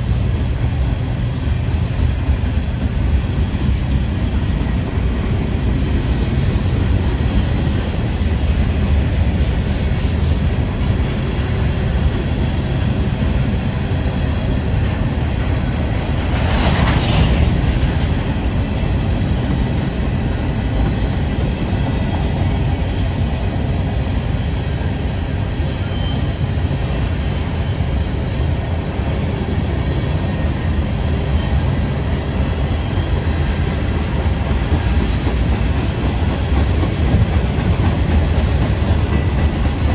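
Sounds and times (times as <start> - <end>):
freight train rolling on rails: 0.0 - 39.9.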